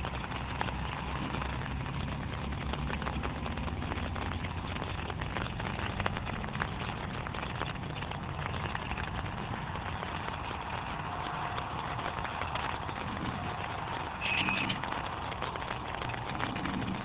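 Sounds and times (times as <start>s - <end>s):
raindrops ticking: 0.0s - 17.0s
steady hiss: 0.0s - 17.0s
wind rumbling on microphone: 0.0s - 17.0s.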